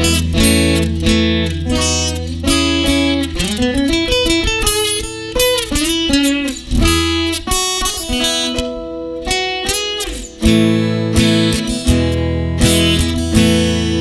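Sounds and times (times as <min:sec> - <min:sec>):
acoustic guitar picked melody: 0:00.0 - 0:14.0.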